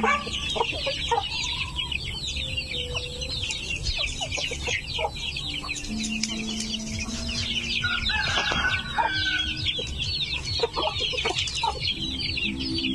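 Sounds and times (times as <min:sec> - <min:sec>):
chicks peeping: 0:00.0 - 0:12.9
hens clucking: 0:00.0 - 0:12.9.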